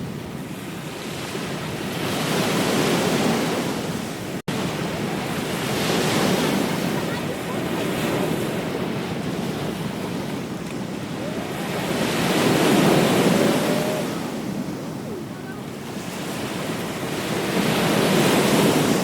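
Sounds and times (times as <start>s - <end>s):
ocean waves breaking on beach: 0.0s - 19.0s
wind on microphone: 0.0s - 19.0s.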